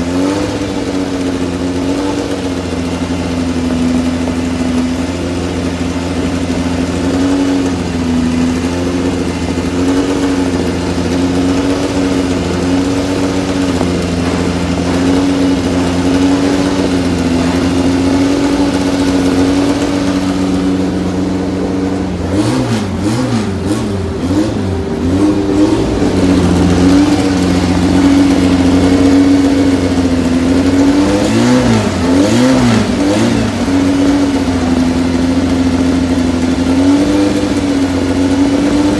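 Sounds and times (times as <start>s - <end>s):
car engine idling: 0.0s - 38.9s
engine revving: 0.0s - 38.9s.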